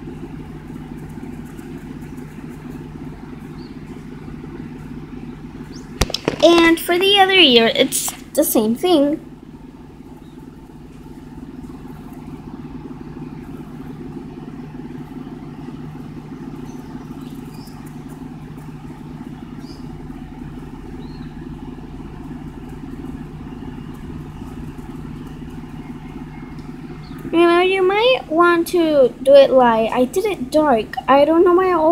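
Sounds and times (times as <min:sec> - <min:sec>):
low mechanical hum: 0:00.0 - 0:31.9.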